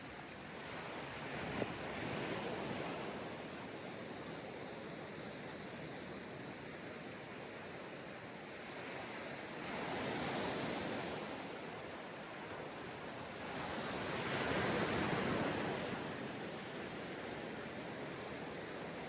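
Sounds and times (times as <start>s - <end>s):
ocean waves washing onto beach: 0.0s - 19.0s.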